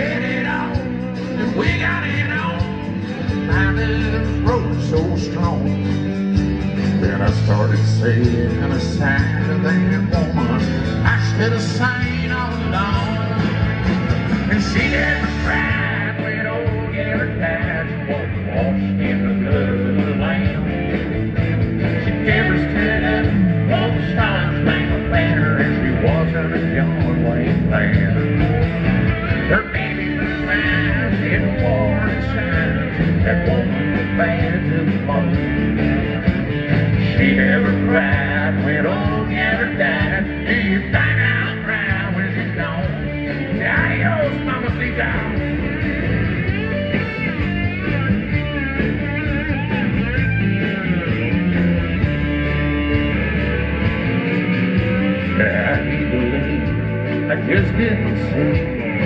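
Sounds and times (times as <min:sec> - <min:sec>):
acoustic guitar strumming: 0:00.0 - 0:59.0
bass guitar: 0:00.0 - 0:59.0
drums: 0:00.0 - 0:59.0
electric lead guitar bending notes: 0:00.0 - 0:59.0.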